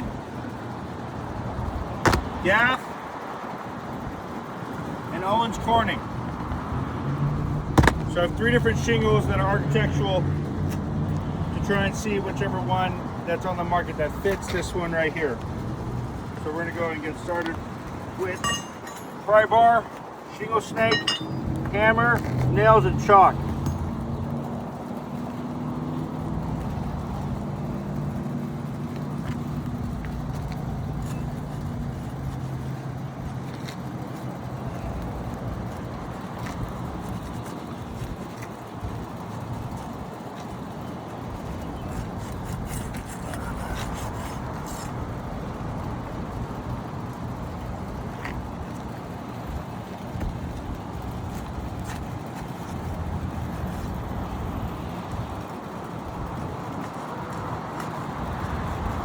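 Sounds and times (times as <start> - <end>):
road traffic noise: 0.0 - 59.0
vehicle engine hum: 0.0 - 59.0.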